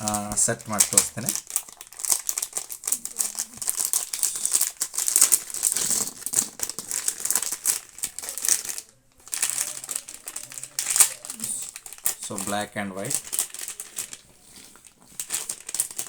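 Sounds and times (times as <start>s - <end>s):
plastic packaging crinkling: 0.0s - 16.0s
chess pieces clicking and rattling: 0.2s - 14.3s, 15.0s - 16.0s.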